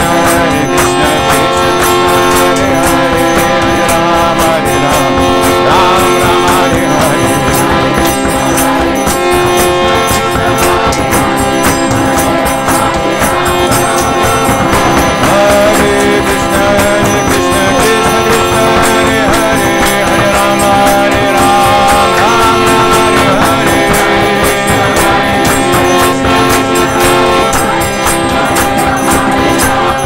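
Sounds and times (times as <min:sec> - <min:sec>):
devotional music with drumming: 0:00.0 - 0:30.0.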